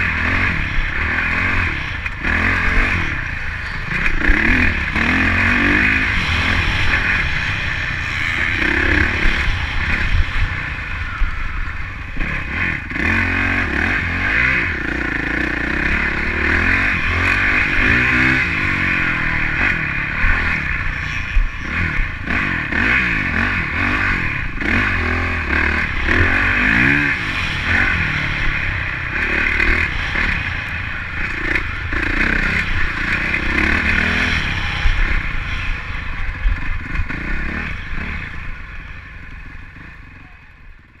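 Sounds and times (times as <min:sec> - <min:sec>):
bike rattling: 0:00.0 - 0:41.0
motocross bike engine revving: 0:00.0 - 0:41.0.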